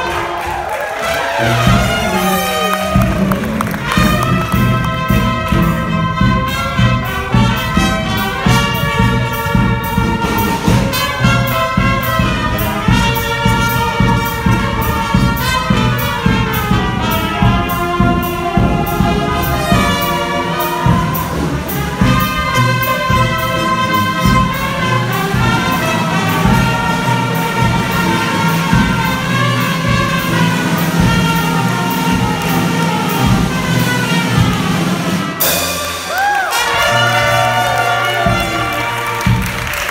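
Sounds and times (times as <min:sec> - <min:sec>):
brass band music: 0:00.0 - 0:39.9.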